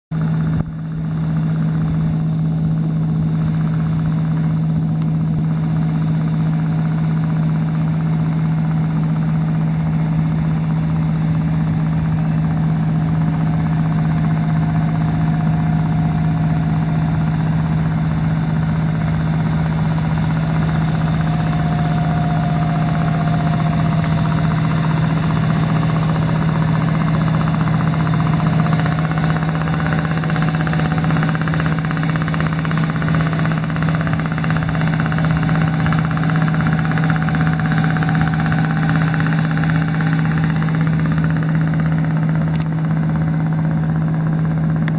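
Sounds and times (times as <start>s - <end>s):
boat engine running: 0.1s - 44.9s
faint high whine: 1.0s - 44.2s.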